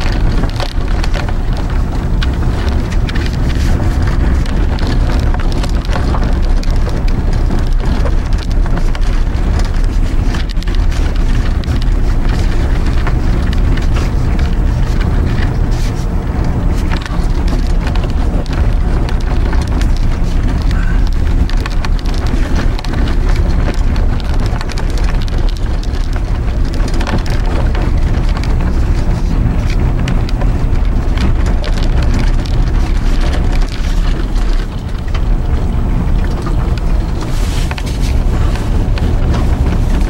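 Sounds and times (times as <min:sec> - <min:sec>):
small ticks and crackles: 0:00.0 - 0:40.0
vehicle tyres rumbling on snowy road: 0:00.0 - 0:40.0.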